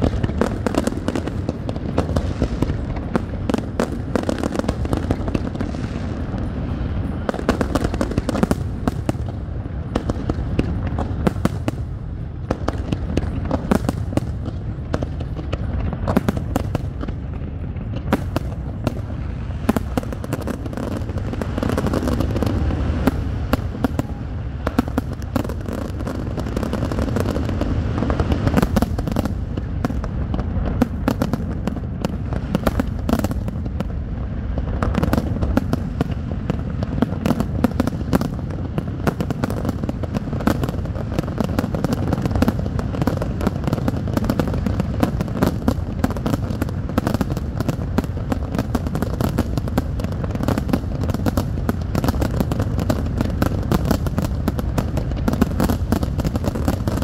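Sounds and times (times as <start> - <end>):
fireworks bursts and crackle: 0.0 - 57.0.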